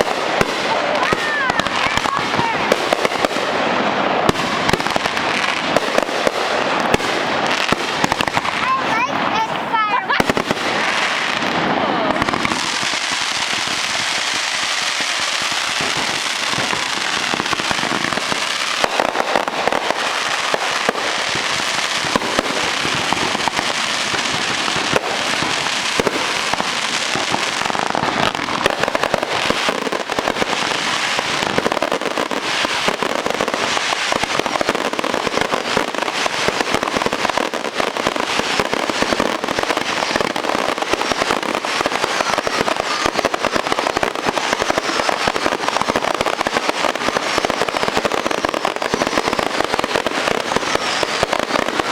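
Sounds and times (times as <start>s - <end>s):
fireworks crackling pops: 0.0s - 51.9s.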